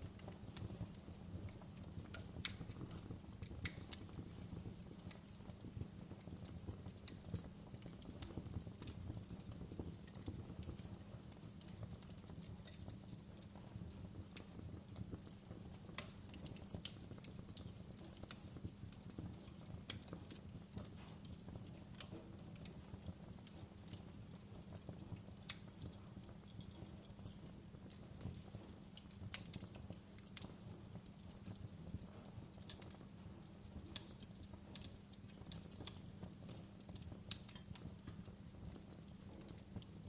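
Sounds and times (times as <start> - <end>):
low rumble of burning fire: 0.0 - 40.0
sharp pops and snaps: 0.1 - 40.0.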